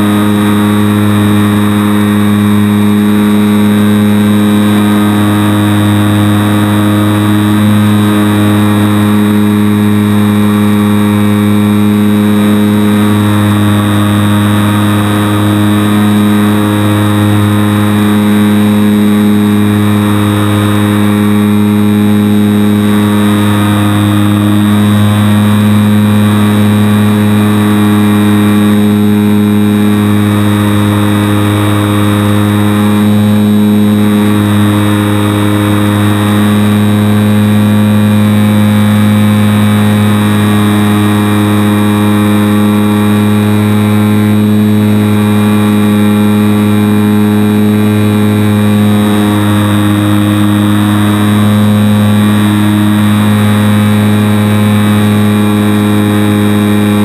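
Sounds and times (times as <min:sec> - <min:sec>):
model airplane motor and propeller: 0:00.0 - 0:57.0.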